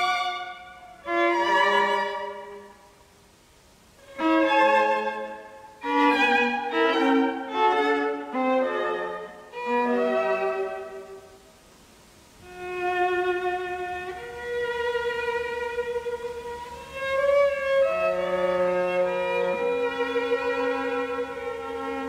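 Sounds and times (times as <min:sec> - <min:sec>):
solo violin melody: 0:00.0 - 0:03.1, 0:04.0 - 0:11.5, 0:12.4 - 0:22.0.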